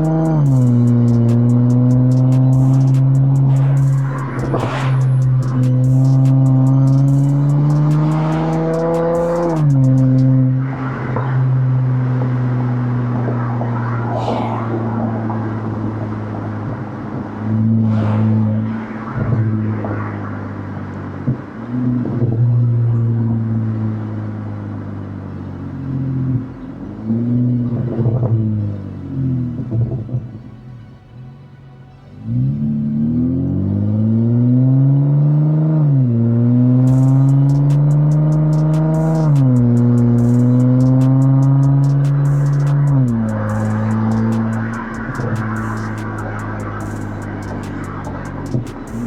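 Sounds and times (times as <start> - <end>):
car exhaust revving and upshifting: 0.0 - 31.3, 32.0 - 49.0.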